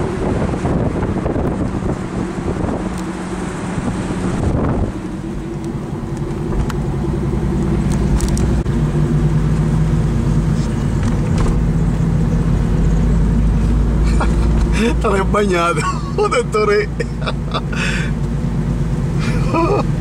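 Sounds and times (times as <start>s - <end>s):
car engine running: 0.0s - 20.0s
road rumble: 0.0s - 20.0s.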